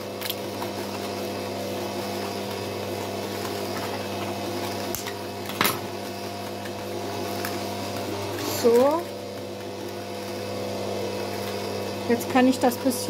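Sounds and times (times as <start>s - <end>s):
stand mixer motor running: 0.0s - 13.0s.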